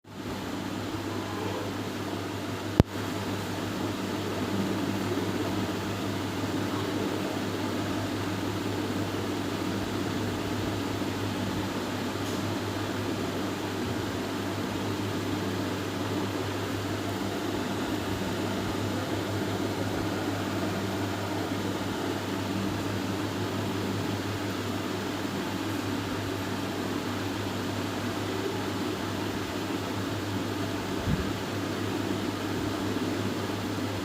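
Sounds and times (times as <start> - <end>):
mechanical hum and hiss: 0.1 - 34.0.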